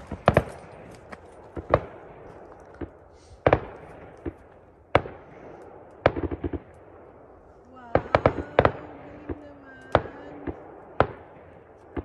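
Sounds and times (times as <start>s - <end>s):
fireworks bangs with rolling echo: 0.0s - 12.0s.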